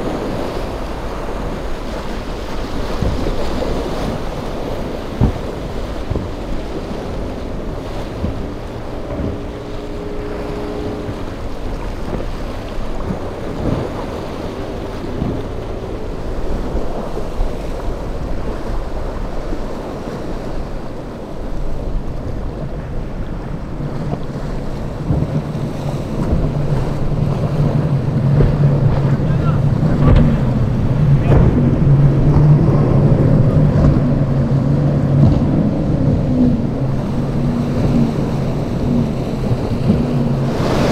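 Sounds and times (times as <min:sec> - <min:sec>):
low engine drone: 0:00.0 - 0:40.9
outboard motors running: 0:00.0 - 0:40.9
surf and choppy water: 0:00.0 - 0:40.9
wind buffeting microphone: 0:00.0 - 0:40.9.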